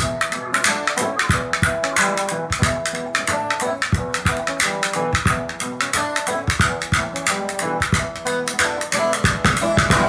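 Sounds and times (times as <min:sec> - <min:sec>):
drum beat: 0:00.0 - 0:10.0
plucked guitar notes: 0:00.0 - 0:10.0.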